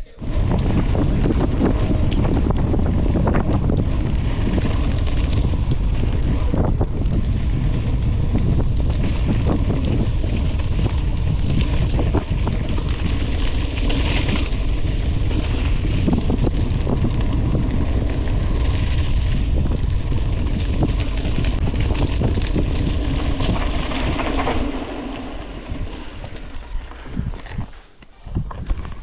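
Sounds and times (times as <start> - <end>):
bike frame and chain rattling: 0.0 - 29.0
tyres rolling over trail: 0.0 - 29.0
wind buffeting microphone: 0.0 - 29.0.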